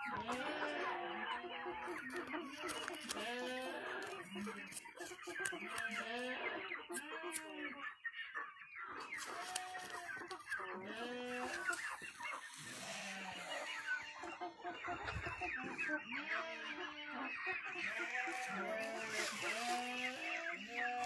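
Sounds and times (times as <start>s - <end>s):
chickens clucking and calling: 0.0s - 21.0s.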